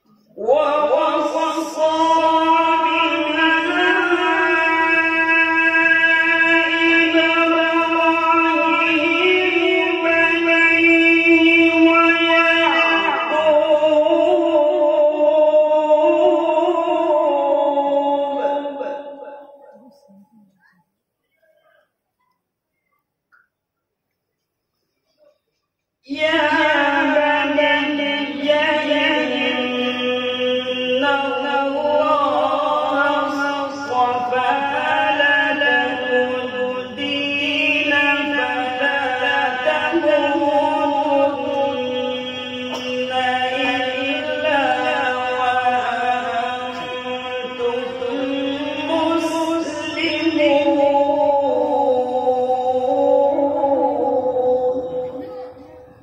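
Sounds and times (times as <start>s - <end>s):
man reciting melodically: 0.0s - 20.8s, 25.0s - 56.0s.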